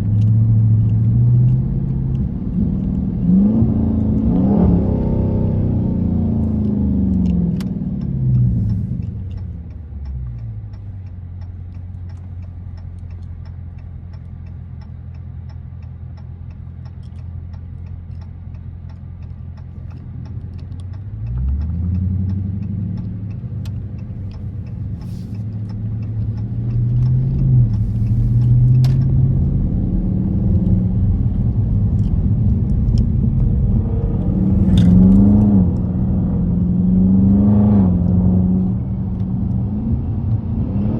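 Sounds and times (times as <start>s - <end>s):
car engine running: 0.0s - 40.6s.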